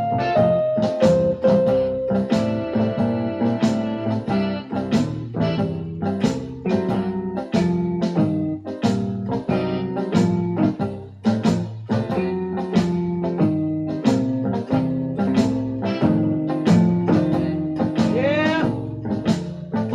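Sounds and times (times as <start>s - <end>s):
electronic keyboard playing blues: 0.0s - 19.9s.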